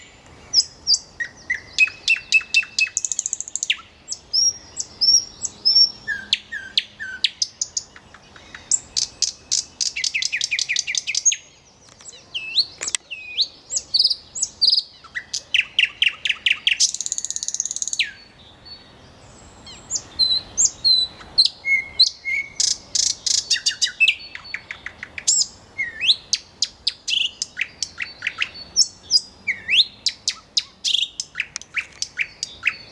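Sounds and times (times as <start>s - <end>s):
nightingale singing: 0.0s - 32.9s.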